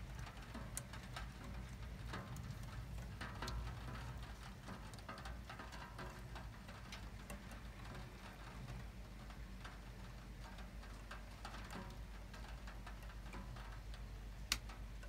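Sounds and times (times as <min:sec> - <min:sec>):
light rain pattering: 0:00.0 - 0:15.0
raindrops ticking: 0:00.0 - 0:15.0.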